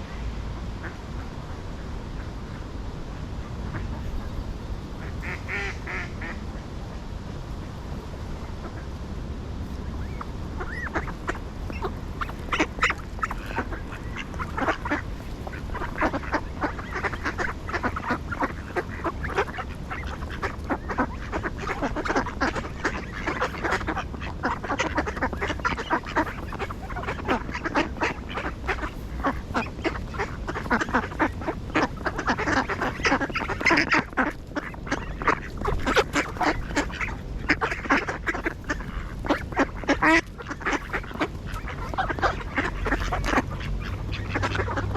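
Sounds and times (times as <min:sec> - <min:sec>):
ducks quacking: 0:00.0 - 0:02.6, 0:03.4 - 0:06.6, 0:08.4 - 0:08.9, 0:09.6 - 0:44.9.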